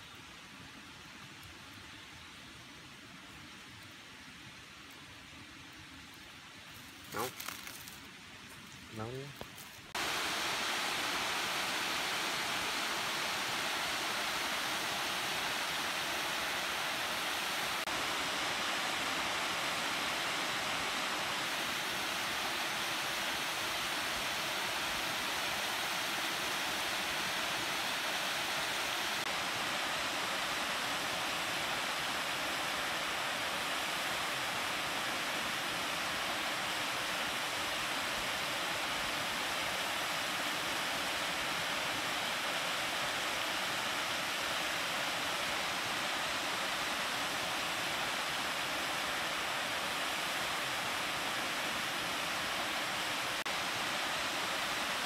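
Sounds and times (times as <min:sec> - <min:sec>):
steady rushing hiss: 0:00.0 - 0:55.0.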